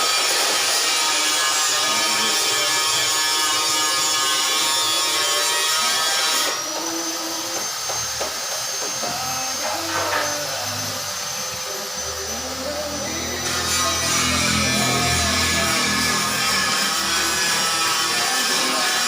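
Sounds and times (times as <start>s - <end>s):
power tool motor running: 0.0s - 19.0s.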